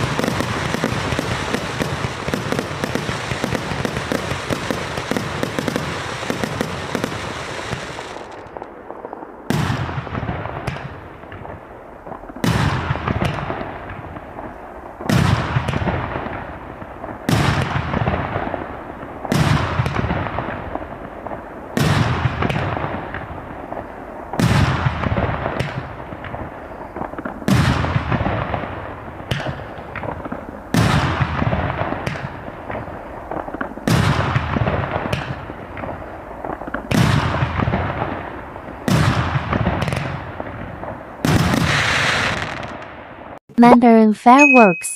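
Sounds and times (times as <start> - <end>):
fireworks crackling: 0.0 - 44.7
fireworks loud reports: 0.0 - 44.9.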